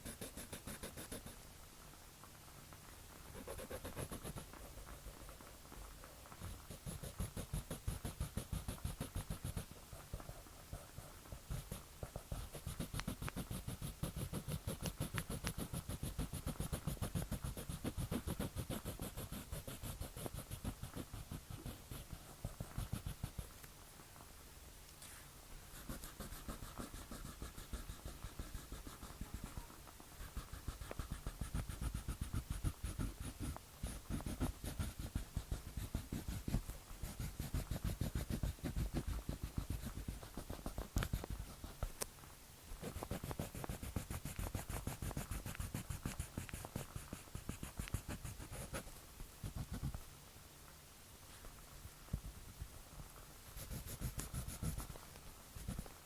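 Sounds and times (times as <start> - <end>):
drawing tool scratching paper: 0.0 - 1.4, 3.3 - 5.0, 6.4 - 23.5, 25.7 - 42.0, 42.8 - 49.9, 53.6 - 55.0, 55.6 - 55.9.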